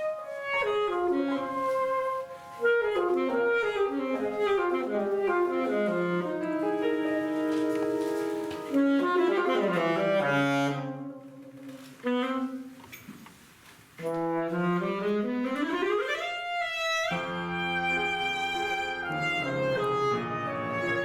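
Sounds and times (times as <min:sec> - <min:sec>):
musical accompaniment: 0:00.0 - 0:12.9, 0:14.0 - 0:21.0
saxophone playing: 0:00.0 - 0:12.9, 0:14.0 - 0:21.0.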